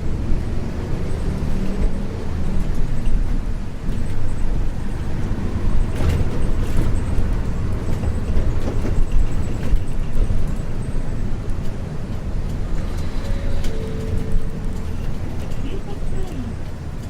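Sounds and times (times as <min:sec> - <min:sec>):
bus diesel engine running: 0:00.0 - 0:17.0
road noise: 0:00.0 - 0:17.0.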